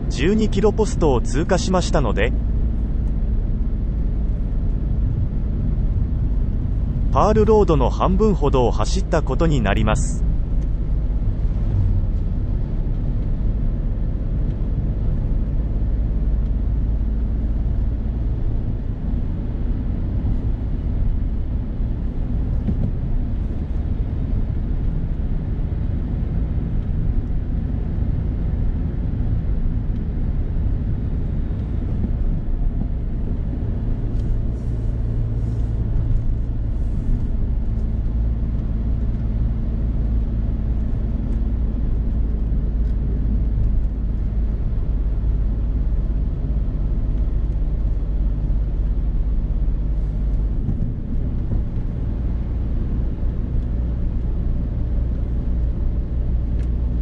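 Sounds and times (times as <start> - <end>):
car engine rumble from cabin: 0.0 - 57.0.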